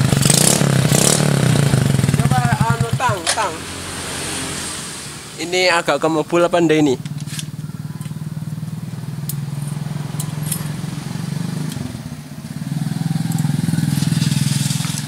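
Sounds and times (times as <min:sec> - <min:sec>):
motorcycle engine idling: 0:00.0 - 0:03.6, 0:06.1 - 0:15.0.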